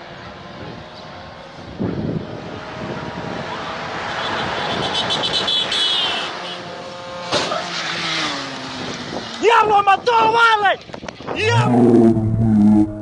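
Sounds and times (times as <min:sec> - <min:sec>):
motor vehicle passing: 0:00.2 - 0:09.6, 0:11.3 - 0:13.0.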